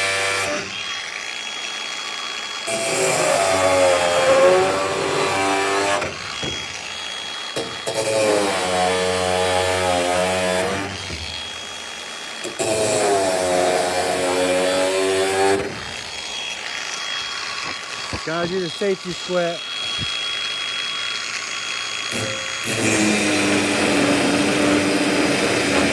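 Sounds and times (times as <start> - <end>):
cutoff wheel cutting wire: 0.0 - 25.9.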